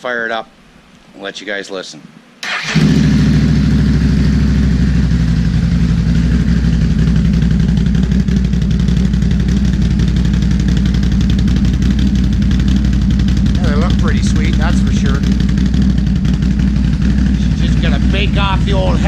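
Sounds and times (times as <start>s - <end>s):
v-twin engine starting and idling: 2.4s - 19.0s.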